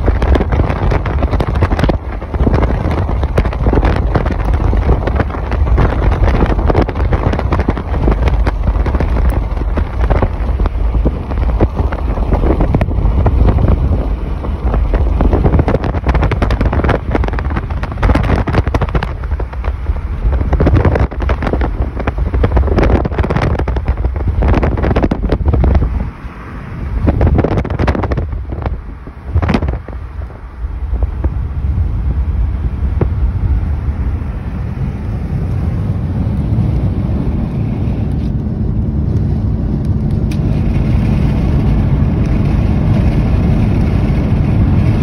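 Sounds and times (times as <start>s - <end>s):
heavy rain on a car: 0.0s - 45.0s
road and wind rumble: 0.0s - 45.0s.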